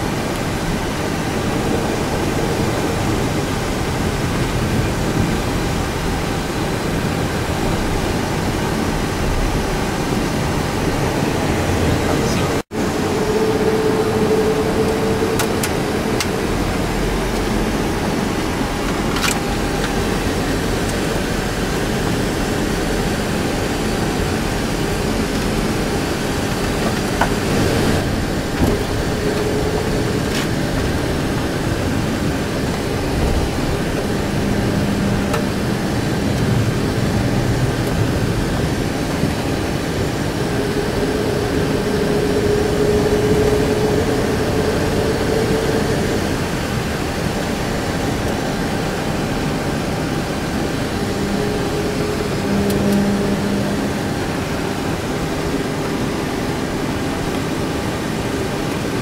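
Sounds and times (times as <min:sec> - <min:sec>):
jet engines at low power: 0:00.0 - 0:59.0.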